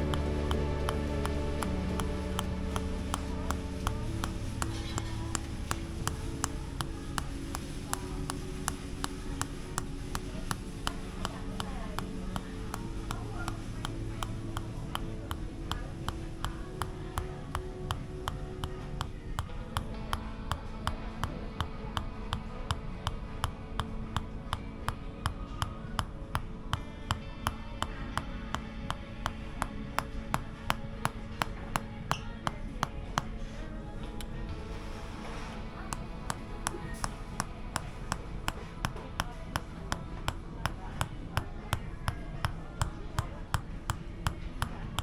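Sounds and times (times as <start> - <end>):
wooden mallet tapping wooden wedge: 0.0 - 45.0.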